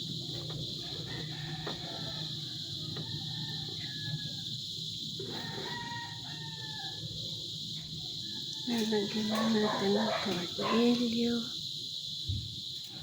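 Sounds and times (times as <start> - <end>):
high-pitched insect chirring: 0.0 - 13.0.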